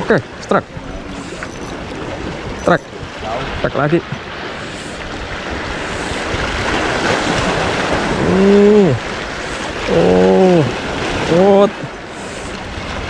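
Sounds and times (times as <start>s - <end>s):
sea waves washing on breakwater: 0.0s - 13.0s.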